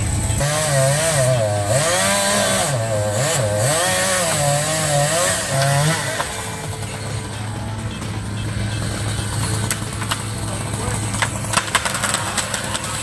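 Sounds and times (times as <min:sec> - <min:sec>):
chainsaw running and cutting: 0:00.0 - 0:13.0.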